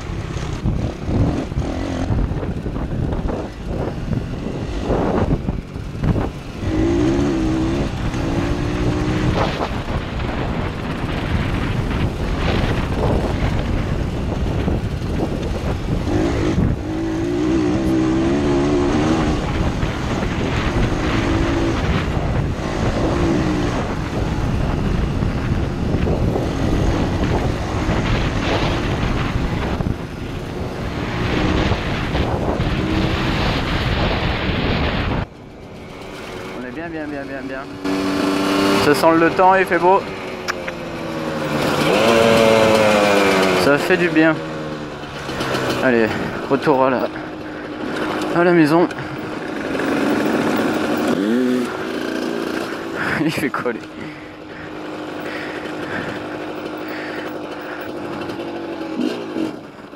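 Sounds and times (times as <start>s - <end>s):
motorcycle engine revving: 0.0s - 59.9s
wind buffeting microphone: 0.0s - 59.9s.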